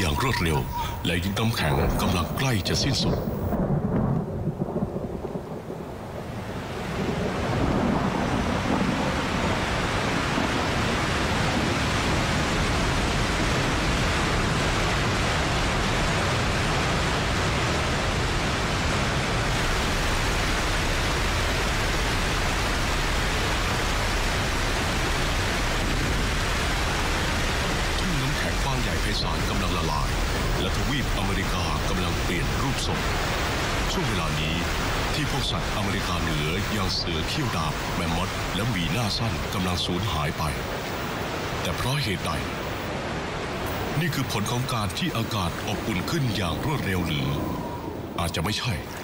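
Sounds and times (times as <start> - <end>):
rushing storm noise: 0.0 - 49.0.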